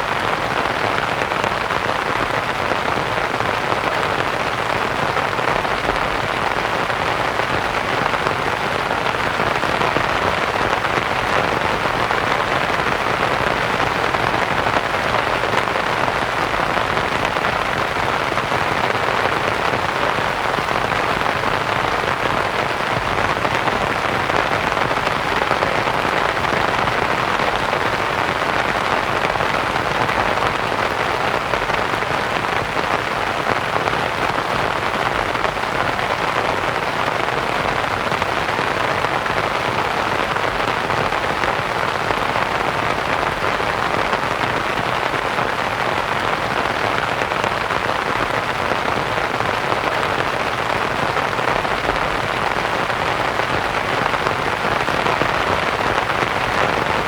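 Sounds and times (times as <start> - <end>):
rain pattering on a tent: 0.0 - 57.0.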